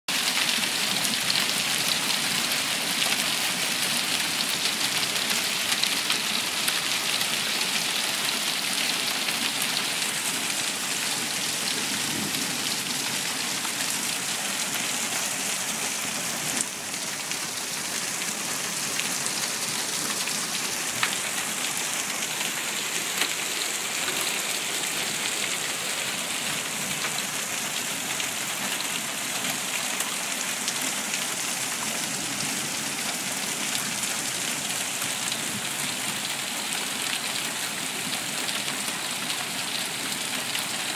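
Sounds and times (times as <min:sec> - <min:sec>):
hail on pavement: 0:00.1 - 0:40.9.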